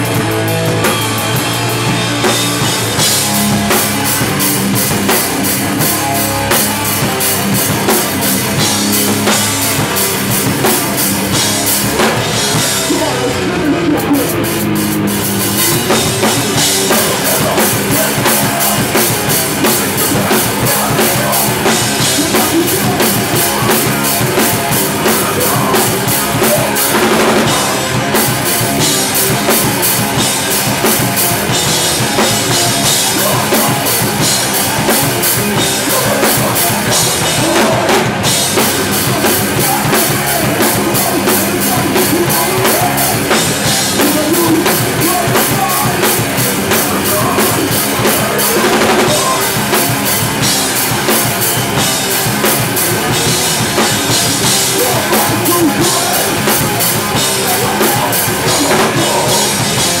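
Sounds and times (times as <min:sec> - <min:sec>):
drum kit: 0:00.0 - 1:00.0
electric guitars: 0:00.0 - 1:00.0
punk band playing live: 0:00.0 - 1:00.0.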